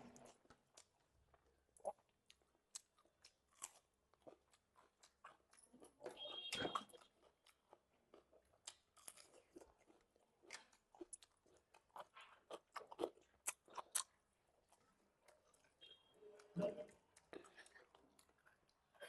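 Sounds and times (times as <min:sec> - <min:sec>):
person chewing: 0:00.0 - 0:15.8, 0:16.4 - 0:19.0.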